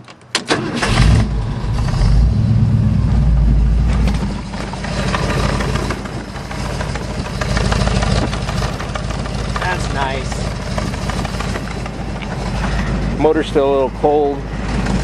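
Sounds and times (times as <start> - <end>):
vee eight engine idling: 0.8 - 15.0.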